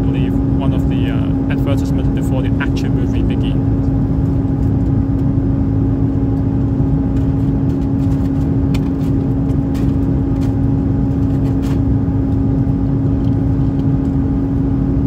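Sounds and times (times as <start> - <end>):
airplane cabin engine drone: 0.0 - 15.0.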